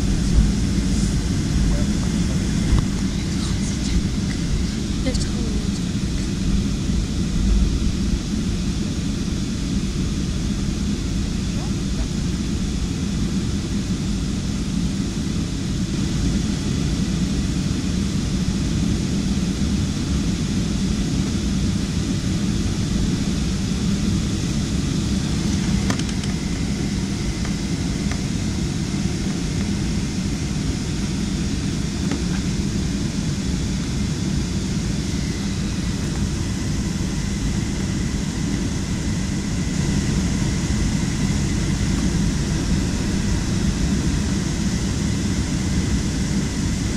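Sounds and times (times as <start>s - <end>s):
airliner cabin drone: 0.0s - 46.9s.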